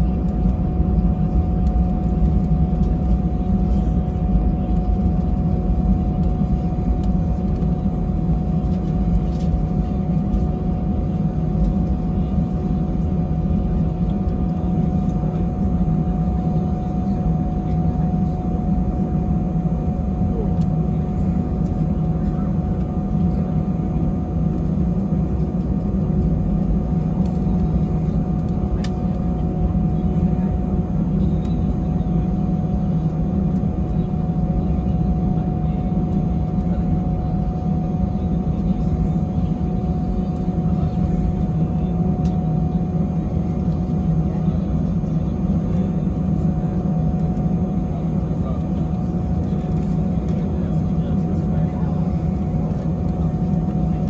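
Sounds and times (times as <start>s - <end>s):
airliner cabin engine hum: 0.0s - 54.0s.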